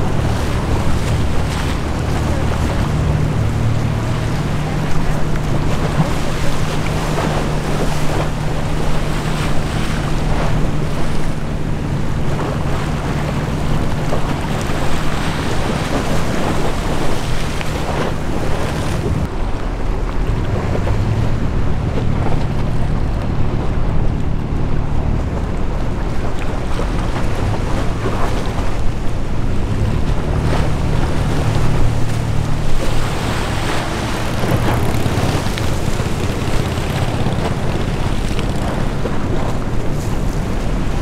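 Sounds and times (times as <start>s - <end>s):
ship hum: 0.0s - 41.0s
waves: 0.0s - 41.0s
wind buffeting microphone: 0.0s - 41.0s.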